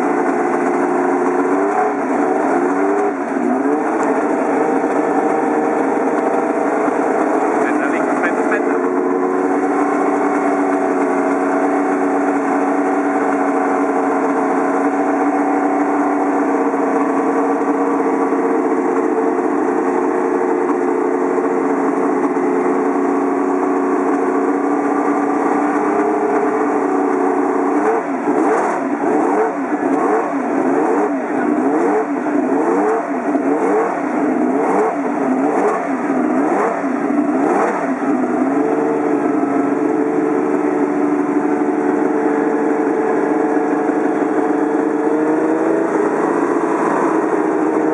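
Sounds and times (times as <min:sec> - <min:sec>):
racing car engine revving: 0:00.0 - 0:47.9.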